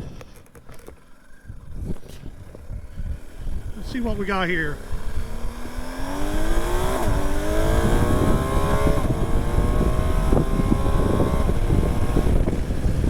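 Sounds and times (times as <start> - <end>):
motorcycle engine accelerating: 1.6 - 13.0.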